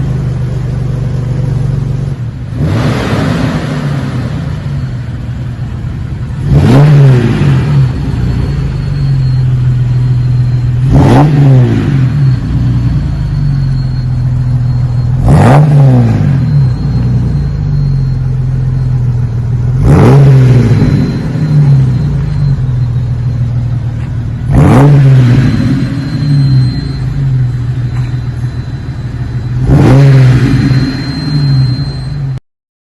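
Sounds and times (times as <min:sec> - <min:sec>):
car engine idling and revving: 0:00.0 - 0:32.4.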